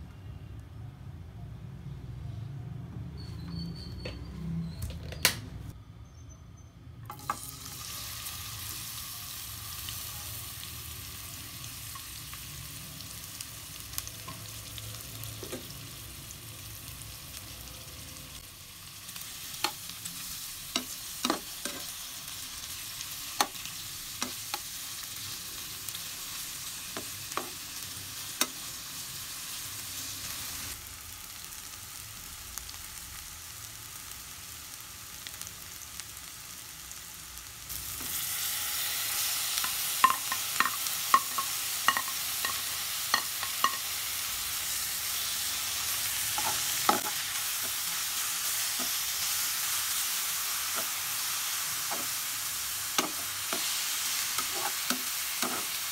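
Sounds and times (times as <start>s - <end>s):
onions sizzling in oil: 7.1s - 55.9s.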